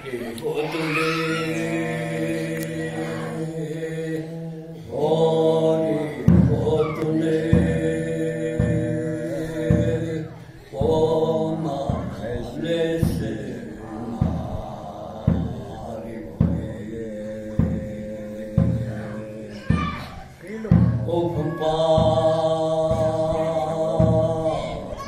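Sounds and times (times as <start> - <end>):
man singing into a microphone: 0.0 - 19.7, 20.4 - 25.0.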